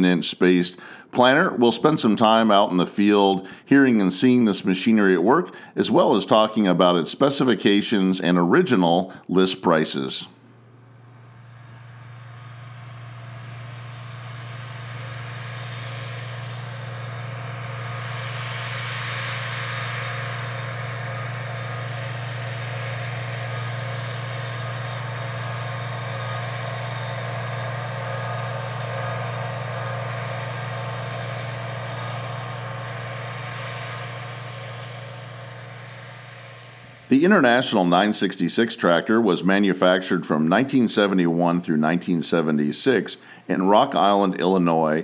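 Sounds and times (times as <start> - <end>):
tractor diesel engine running: 0.0 - 8.0, 8.8 - 40.4, 41.0 - 45.0.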